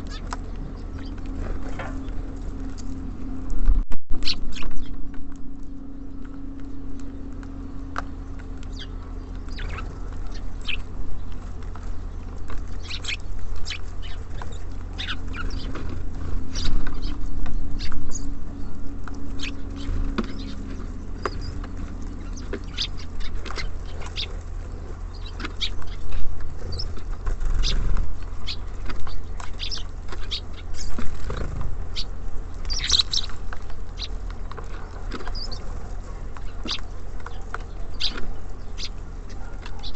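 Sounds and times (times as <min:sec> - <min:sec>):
birds pecking at seed: 0:00.0 - 0:39.9
steady low hum: 0:00.0 - 0:39.9.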